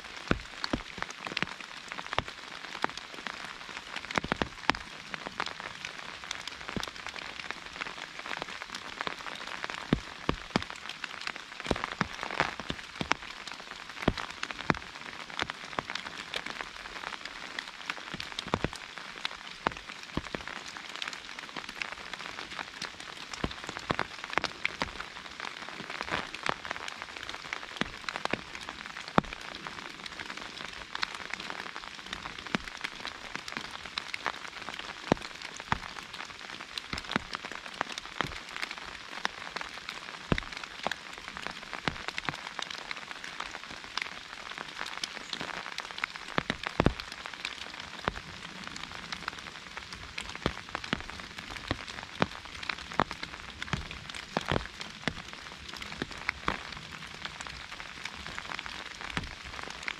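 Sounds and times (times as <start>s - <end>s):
rain hissing: 0.0s - 59.9s
raindrops tapping umbrella: 0.0s - 59.9s.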